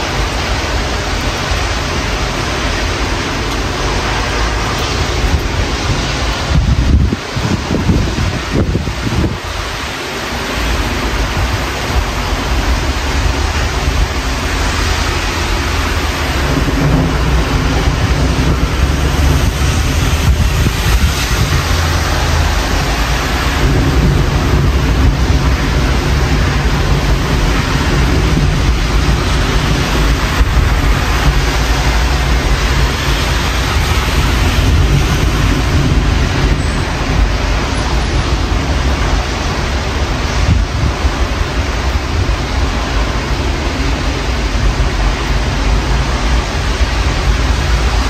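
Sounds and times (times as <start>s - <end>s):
rain hissing: 0.0s - 48.0s
thunder rumbling: 0.0s - 48.0s.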